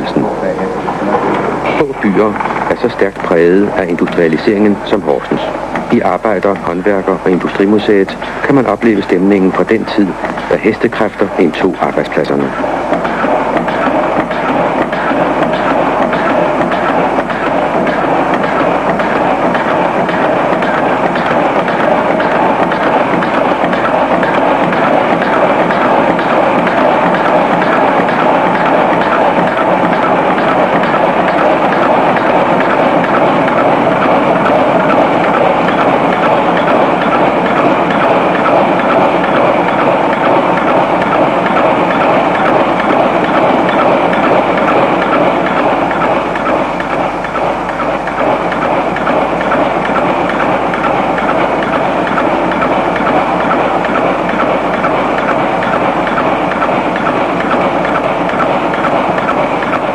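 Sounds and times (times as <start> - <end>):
workshop machinery running: 0.0 - 59.9.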